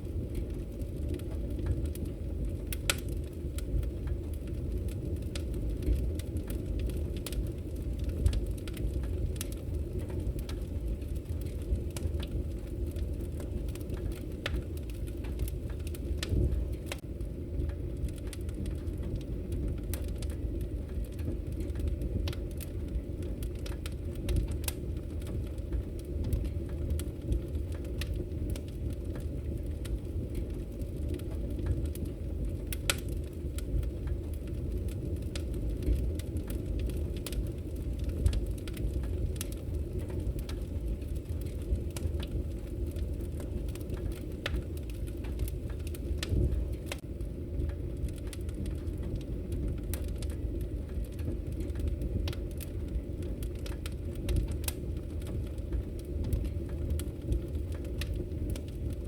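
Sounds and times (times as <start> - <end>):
low rush of flames: 0.0 - 59.0
wood fire crackling: 0.0 - 59.0.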